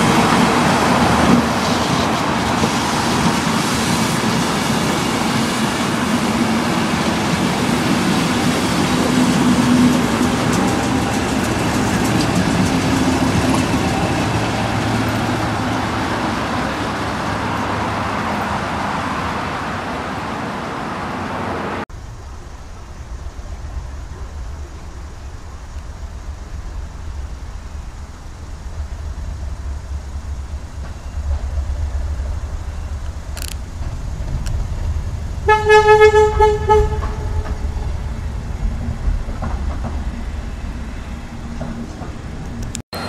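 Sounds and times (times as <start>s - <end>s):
train running past: 0.0s - 43.0s.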